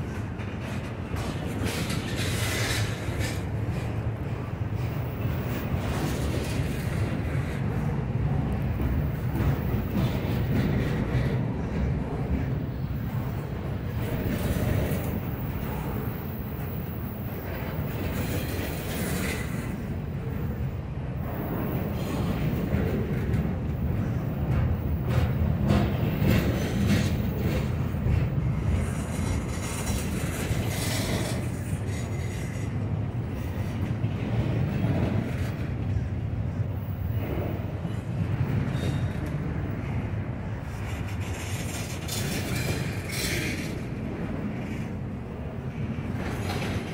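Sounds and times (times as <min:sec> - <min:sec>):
wheels clicking over rail joints: 0:00.0 - 0:20.4, 0:21.2 - 0:36.0, 0:36.8 - 0:46.9
train rumbling on rails: 0:00.0 - 0:46.9.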